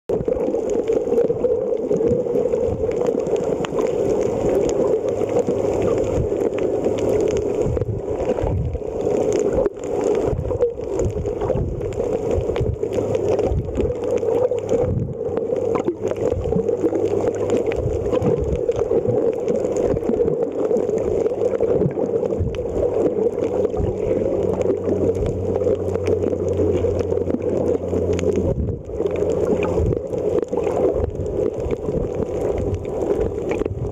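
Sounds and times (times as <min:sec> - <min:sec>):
muffled underwater rushing: 0:00.1 - 0:33.9.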